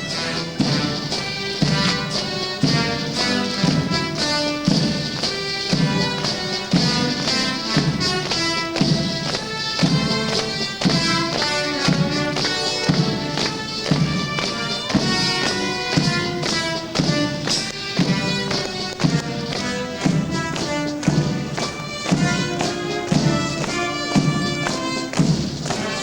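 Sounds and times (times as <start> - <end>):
band playing a march: 0.0 - 26.0
bass drum beat: 0.0 - 26.0.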